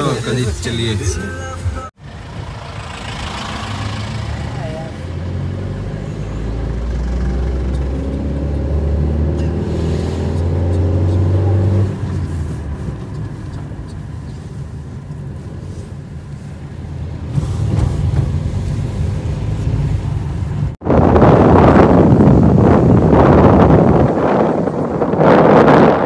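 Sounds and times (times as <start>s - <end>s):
car engine accelerating: 1.8s - 26.0s.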